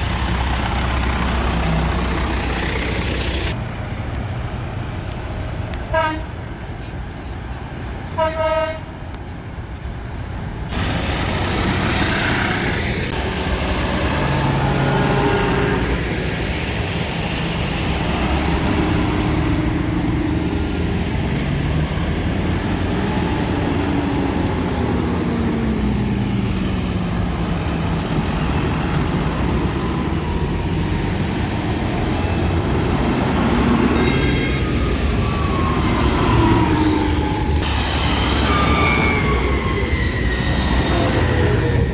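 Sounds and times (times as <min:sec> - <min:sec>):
tractors driving past: 0:00.0 - 0:05.6, 0:10.7 - 0:41.9.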